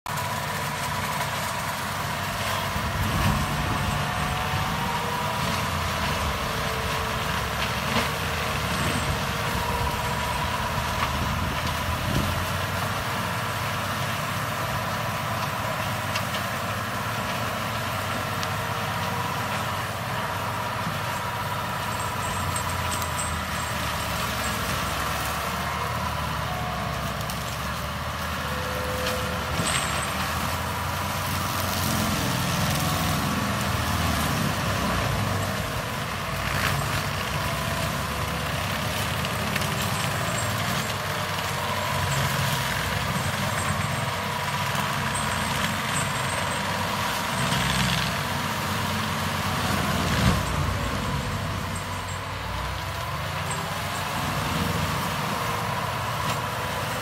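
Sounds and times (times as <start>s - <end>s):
mulcher whine: 0.1s - 57.0s
tractor engine under load: 0.1s - 57.0s.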